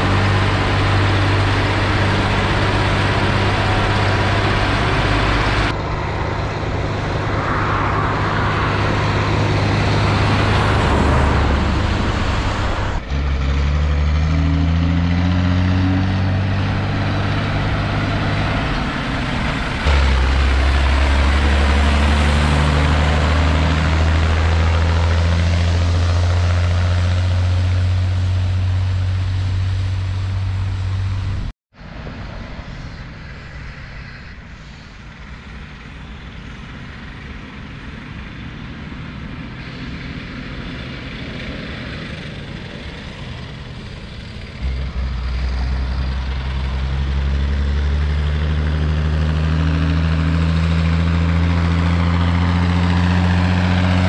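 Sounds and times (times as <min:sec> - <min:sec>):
tractor diesel engine drone: 0:00.0 - 0:54.0.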